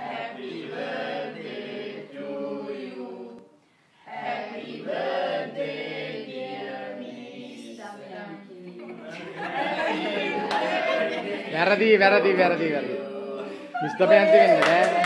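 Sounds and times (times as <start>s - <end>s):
group singing unaccompanied: 0.0s - 14.5s.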